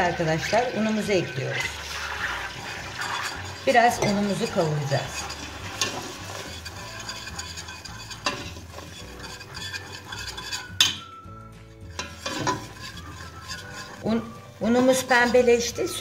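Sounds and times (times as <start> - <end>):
utensil scraping metal pot: 0.0 - 16.0.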